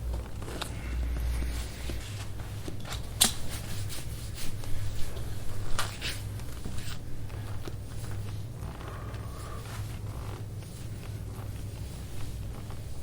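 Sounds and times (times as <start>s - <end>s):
steady low hum: 0.0s - 13.0s
hands rubbing on skin: 0.2s - 13.0s.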